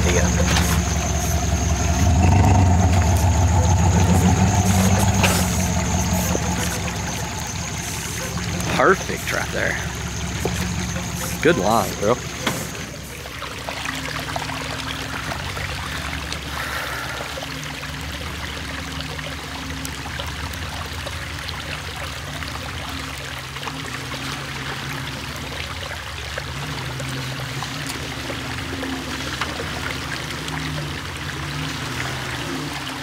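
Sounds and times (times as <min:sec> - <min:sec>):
jeep engine running low: 0:00.0 - 0:33.0
water running: 0:00.0 - 0:33.0.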